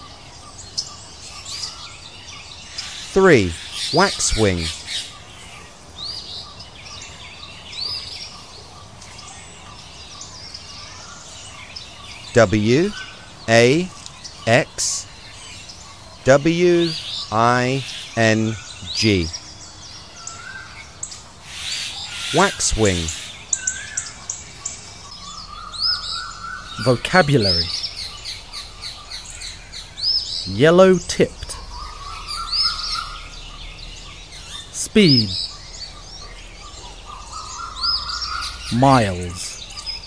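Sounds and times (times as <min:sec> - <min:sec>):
low steady background noise: 0:00.0 - 0:40.0
small birds chirping: 0:00.0 - 0:40.0.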